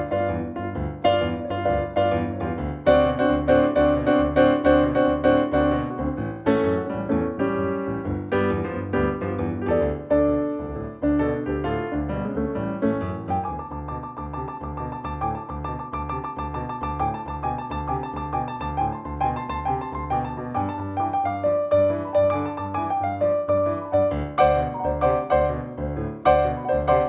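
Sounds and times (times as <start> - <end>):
boogie-woogie piano: 0.0 - 27.0.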